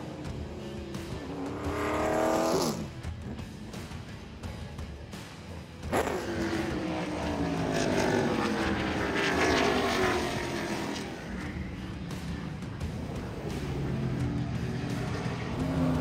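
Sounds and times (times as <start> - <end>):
race car engine passing: 0.0 - 3.4, 5.9 - 16.0.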